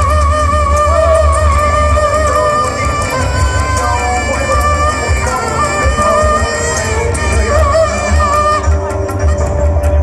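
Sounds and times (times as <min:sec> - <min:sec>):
dense layered drone: 0:00.0 - 0:10.0
heavy low rumble: 0:00.0 - 0:10.0
person singing with wavering pitch: 0:00.5 - 0:08.8.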